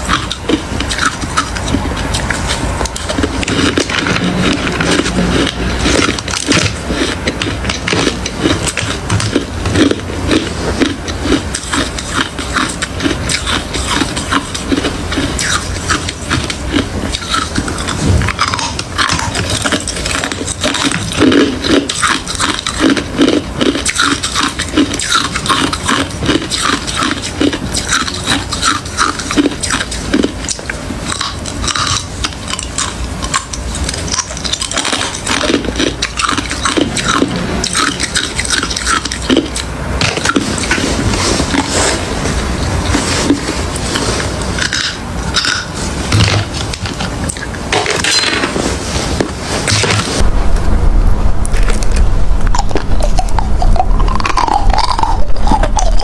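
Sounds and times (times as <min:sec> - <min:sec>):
chewing ice crunching: 0:00.0 - 0:50.0, 0:52.6 - 0:56.0.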